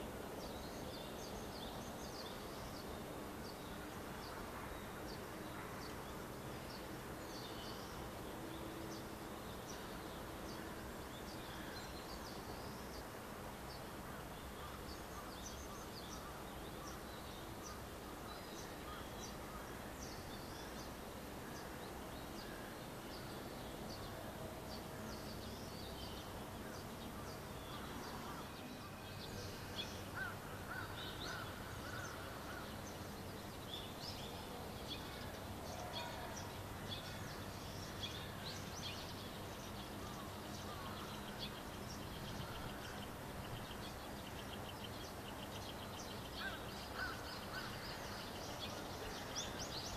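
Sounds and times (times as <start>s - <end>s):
faint steady hum: 0.0s - 49.9s
small birds chirping: 0.0s - 49.9s.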